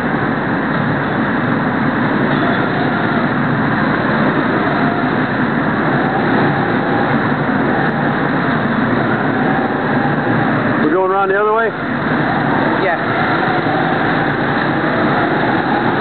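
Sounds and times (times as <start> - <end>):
go-kart engines droning: 0.0 - 16.0.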